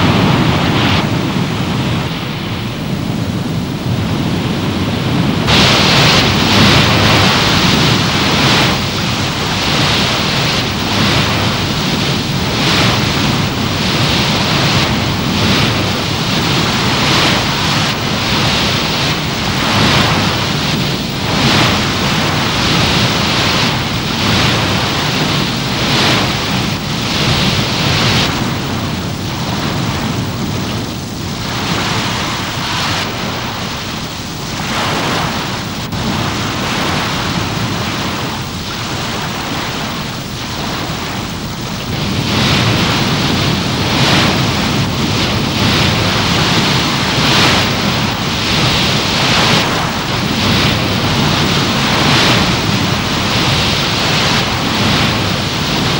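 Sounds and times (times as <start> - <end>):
sea water rushing along hull: 0.0 - 55.9
wind: 0.0 - 55.9.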